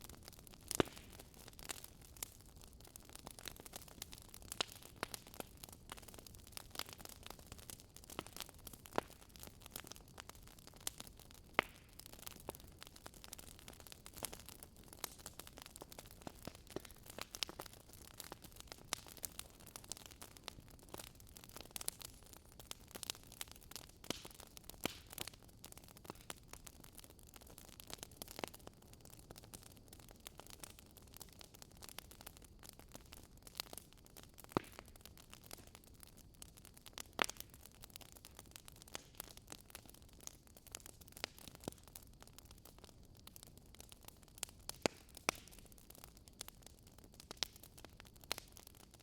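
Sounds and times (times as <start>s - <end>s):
wood crackling and popping: 0.0s - 49.0s.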